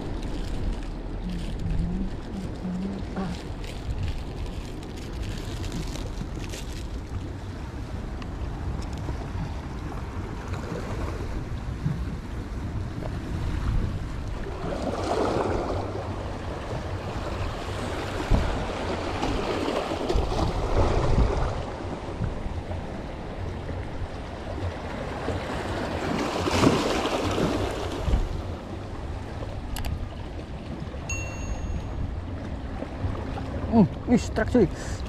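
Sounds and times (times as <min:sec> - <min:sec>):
water washing at shore: 0:00.0 - 0:35.0
wind gusting over microphone: 0:00.0 - 0:35.0.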